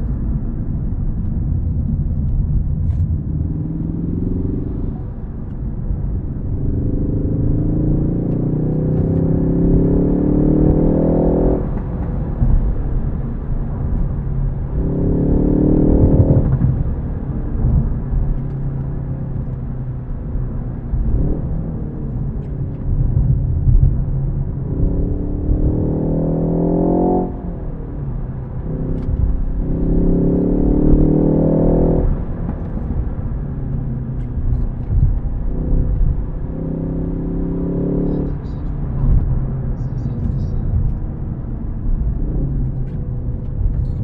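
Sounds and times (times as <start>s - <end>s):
car engine accelerating hard: 0.0s - 44.0s
low steady engine note: 0.0s - 44.0s
road rumble: 0.0s - 44.0s.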